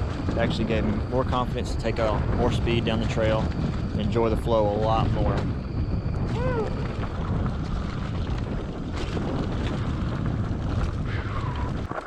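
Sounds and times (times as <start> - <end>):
bike tyres and frame rattling: 0.0 - 1.2, 1.9 - 12.0
wind rushing over microphone: 0.0 - 12.0.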